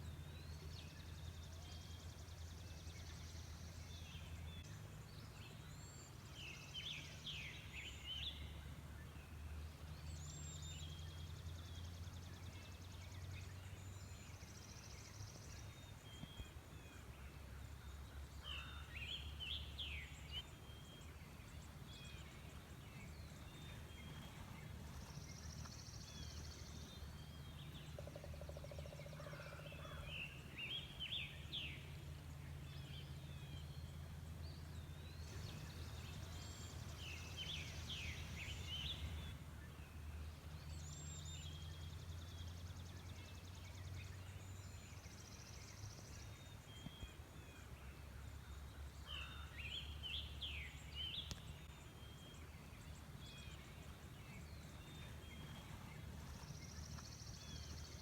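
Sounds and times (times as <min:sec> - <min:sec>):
birds chirping and trilling: 0:10.3 - 0:31.9, 0:32.5 - 0:58.0.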